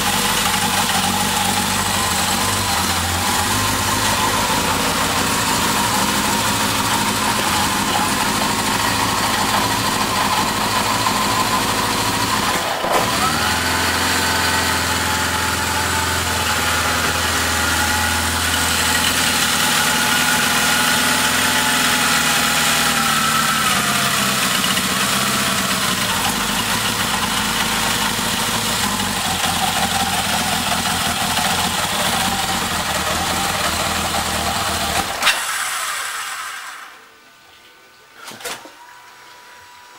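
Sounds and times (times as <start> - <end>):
motorcycle engine idling: 0.0 - 12.5, 14.6 - 35.2.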